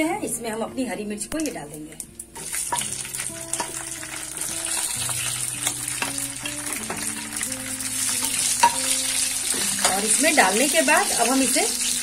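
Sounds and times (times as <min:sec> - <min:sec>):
soft background music: 0:00.0 - 0:12.0
chillies sizzling in hot oil: 0:00.8 - 0:12.0.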